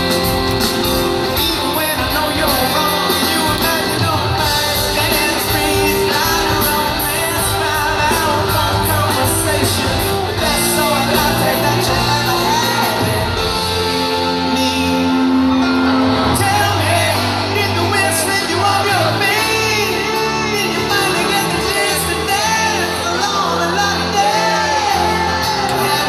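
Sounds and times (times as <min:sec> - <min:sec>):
fans shouting and whooping: 0:00.0 - 0:26.0
live rock band: 0:00.0 - 0:26.0
person singing: 0:00.0 - 0:26.0
piano: 0:00.0 - 0:26.0.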